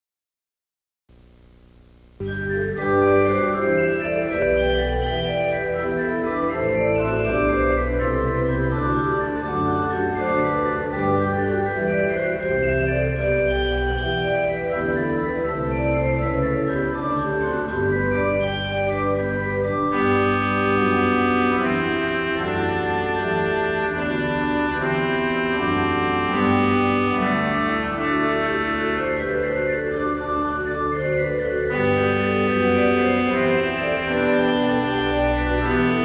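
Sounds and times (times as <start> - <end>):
slow organ chords: 1.1 - 36.0.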